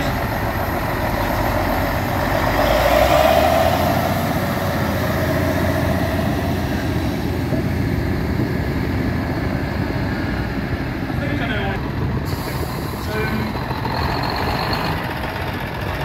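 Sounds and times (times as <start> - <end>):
heavy vehicle engine passing: 0.0 - 16.0.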